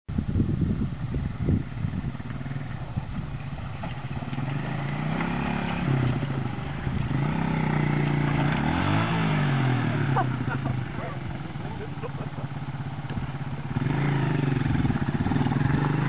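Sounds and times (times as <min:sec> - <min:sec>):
motorcycle engine revving: 0:00.3 - 0:16.0
water splashing at wheels: 0:01.6 - 0:16.0.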